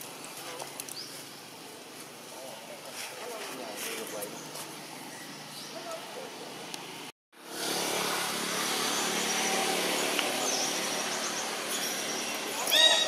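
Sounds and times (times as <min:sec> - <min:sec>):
steady outdoor noise: 0:00.0 - 0:13.0.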